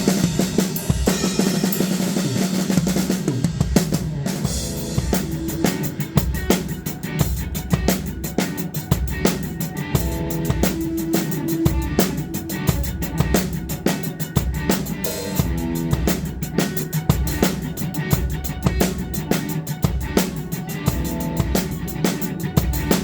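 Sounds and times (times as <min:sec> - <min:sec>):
band playing rock: 0:00.0 - 0:23.0
drum kit rock beat: 0:00.0 - 0:23.0.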